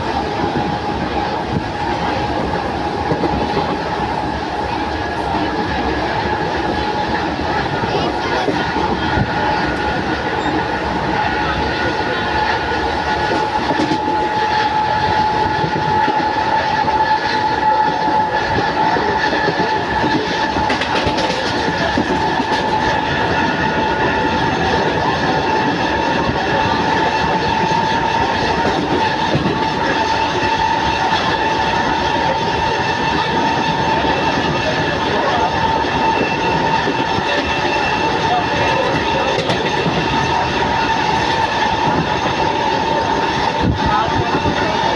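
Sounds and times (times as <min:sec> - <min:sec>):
train rail noise: 0:00.0 - 0:44.9.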